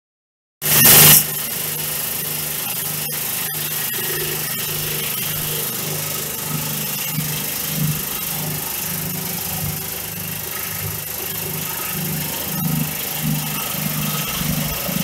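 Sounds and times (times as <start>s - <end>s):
vibrating sifter motor humming: 0.6s - 15.0s.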